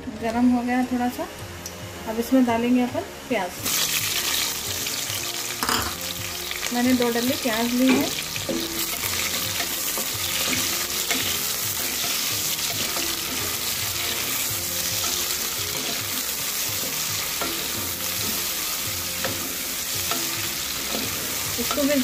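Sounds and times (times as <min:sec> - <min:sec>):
onions sizzling in hot oil: 0:00.2 - 0:22.0.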